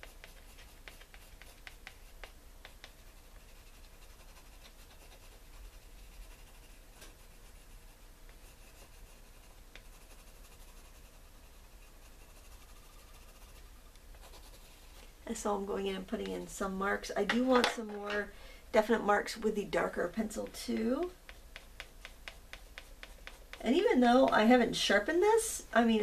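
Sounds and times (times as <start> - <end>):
pencil scratching on paper: 0.0 - 15.0, 18.8 - 25.5.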